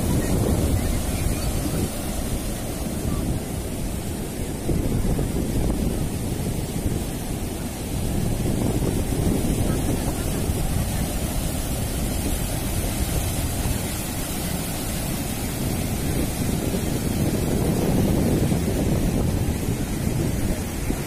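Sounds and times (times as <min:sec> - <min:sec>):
ocean surf breaking on a beach: 0:00.0 - 0:21.0
wind rumbling on microphone: 0:00.0 - 0:21.0.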